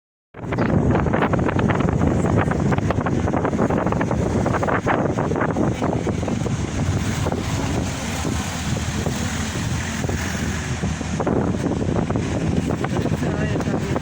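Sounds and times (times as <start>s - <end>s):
wind buffeting microphone: 0.3s - 14.0s.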